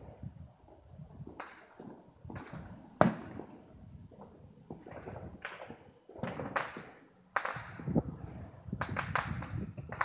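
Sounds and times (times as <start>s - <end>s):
fireworks and firecrackers banging: 0.0s - 10.0s.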